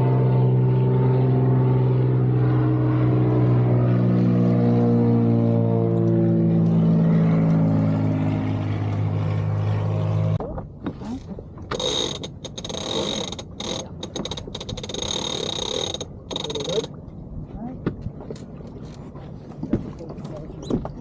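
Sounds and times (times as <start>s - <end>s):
motorboat engine droning: 0.0s - 21.0s.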